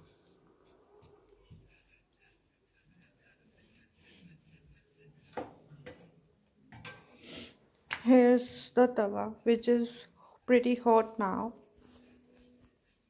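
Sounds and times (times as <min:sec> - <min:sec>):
soft rubbing: 0:00.0 - 0:05.8, 0:08.2 - 0:13.0.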